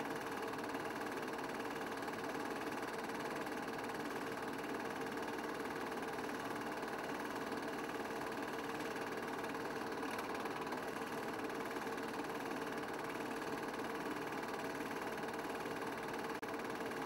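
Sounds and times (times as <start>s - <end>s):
film projector whirring and clattering: 0.0s - 17.0s.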